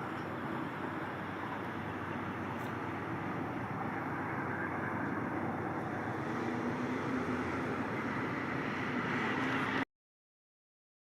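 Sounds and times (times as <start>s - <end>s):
train passing on tracks: 0.0s - 9.8s.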